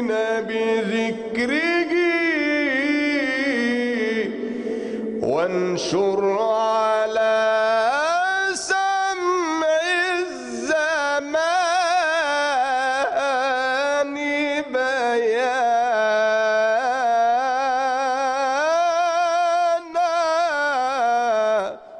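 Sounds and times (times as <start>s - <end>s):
man singing unaccompanied: 0.0s - 21.9s.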